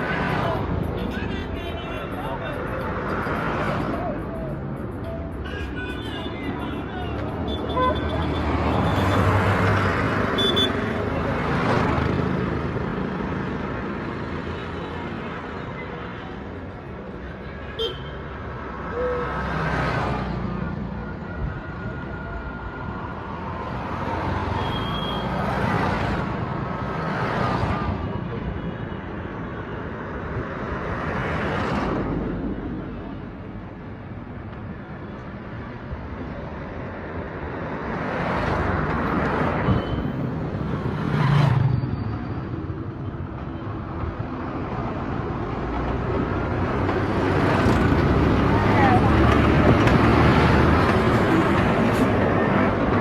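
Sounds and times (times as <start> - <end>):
street traffic: 0.0 - 53.0
vehicles passing close by: 0.0 - 53.0.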